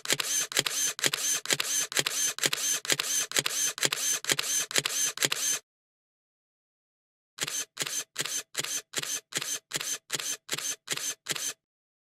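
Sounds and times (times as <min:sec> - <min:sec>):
camera shutter clicking and whirring: 0:00.0 - 0:05.6, 0:07.4 - 0:11.6.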